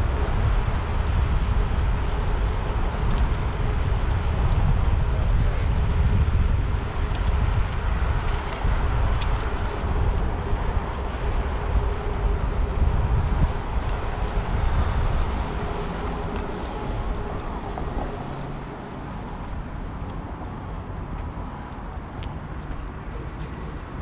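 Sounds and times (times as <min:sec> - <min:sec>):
rumble of passing cars: 0:00.0 - 0:24.0.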